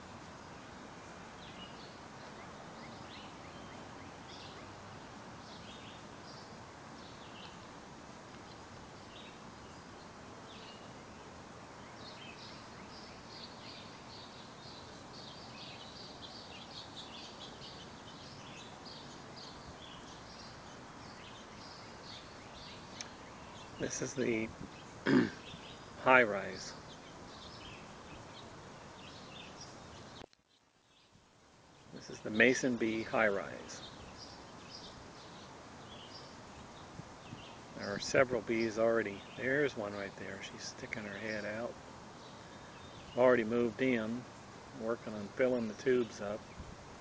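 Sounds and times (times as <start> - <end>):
small birds chirping: 0.0 - 47.0
steady outdoor hiss: 0.0 - 47.0.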